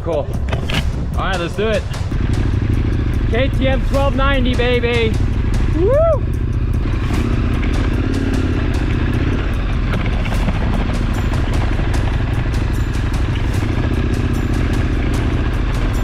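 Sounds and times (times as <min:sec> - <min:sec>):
motorcycle engine running under load: 0:02.1 - 0:16.0.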